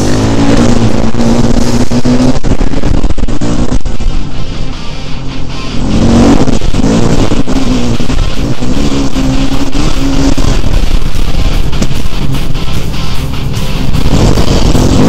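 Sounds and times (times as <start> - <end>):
background music: 0.0 - 15.0
dirt bike engine revving: 0.0 - 15.0.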